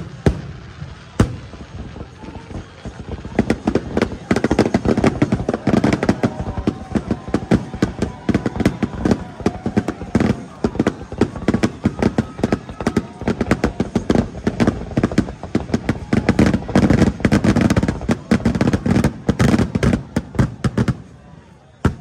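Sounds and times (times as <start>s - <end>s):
deep firework booms: 0.0s - 21.1s
fireworks bangs and crackles: 0.0s - 22.0s.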